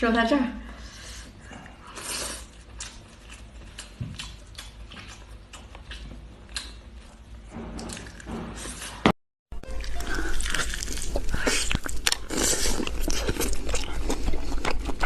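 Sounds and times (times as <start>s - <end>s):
person chewing food: 1.3s - 9.0s, 9.6s - 15.0s.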